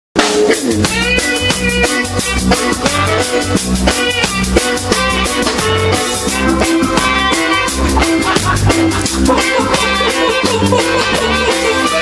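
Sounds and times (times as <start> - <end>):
drum kit beat: 0.2 - 12.0
live band playing: 0.2 - 12.0.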